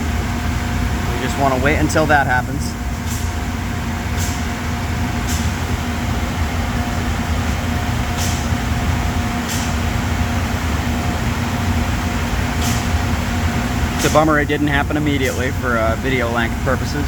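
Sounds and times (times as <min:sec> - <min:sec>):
air compressor humming: 0:00.0 - 0:17.0.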